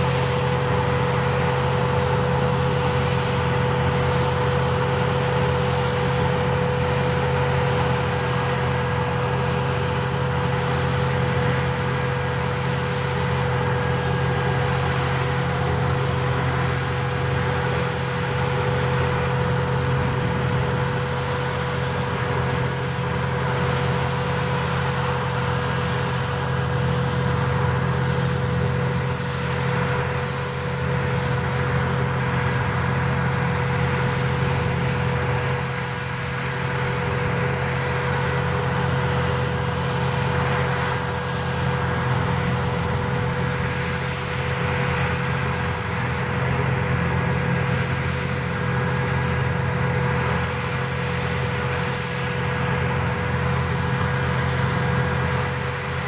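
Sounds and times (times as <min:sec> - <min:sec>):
crickets chirping: 0:00.0 - 0:56.0
low engine hum: 0:00.0 - 0:56.0.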